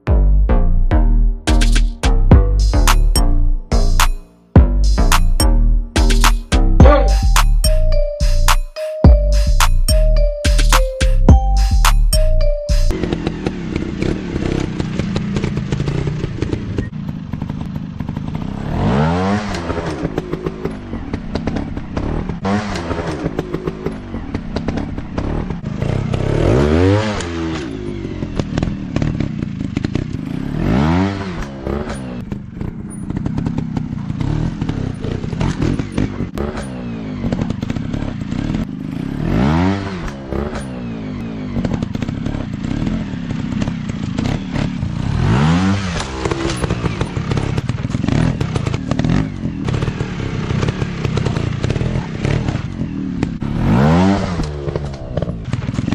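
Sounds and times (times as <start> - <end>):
motorcycle engines revving: 9.2 - 55.9.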